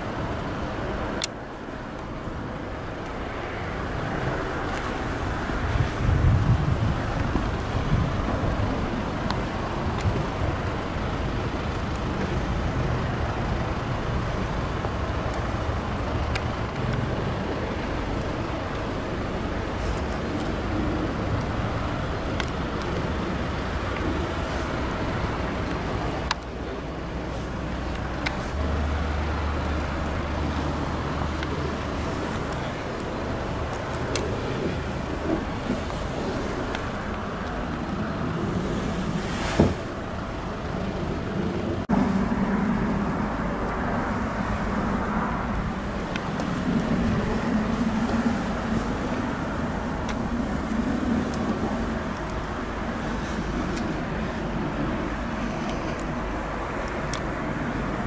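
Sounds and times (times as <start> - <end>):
low rumble of road traffic: 0.0 - 58.0
wind on the microphone: 0.0 - 58.0.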